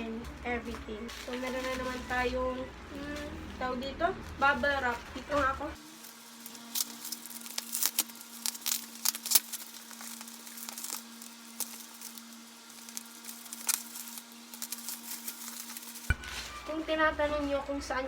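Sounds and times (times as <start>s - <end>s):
bubble wrap crinkling: 0.6s - 2.4s, 3.2s - 17.8s.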